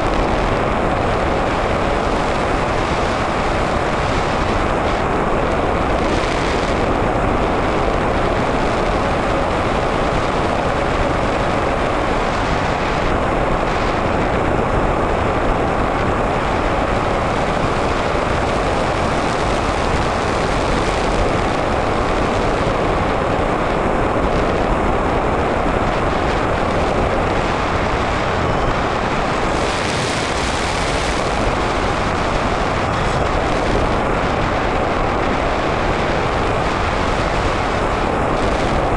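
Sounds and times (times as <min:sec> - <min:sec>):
airflow rushing over camera: 0:00.0 - 0:38.9.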